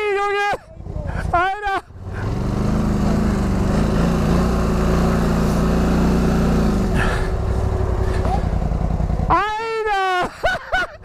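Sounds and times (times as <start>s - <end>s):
quad engine running at high revs: 0.8s - 9.8s.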